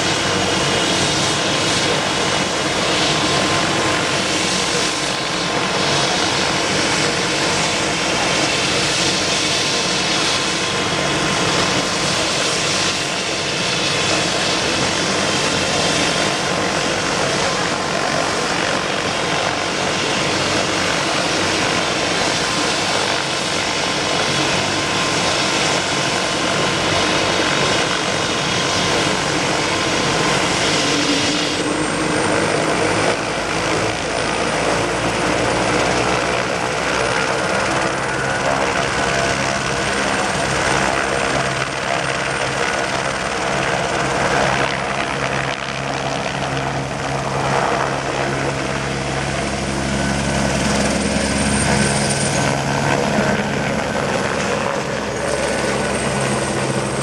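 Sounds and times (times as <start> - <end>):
helicopter turbine and rotor: 0.0 - 57.0.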